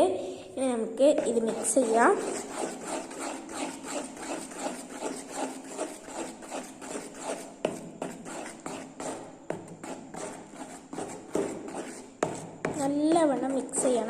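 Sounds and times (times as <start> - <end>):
slime stirred in a container: 1.0 - 14.0.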